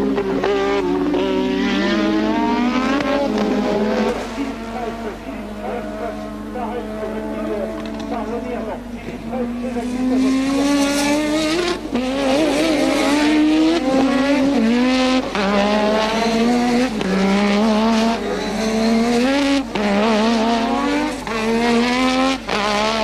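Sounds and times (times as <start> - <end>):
racing car engine at high revs: 0.0 - 23.0.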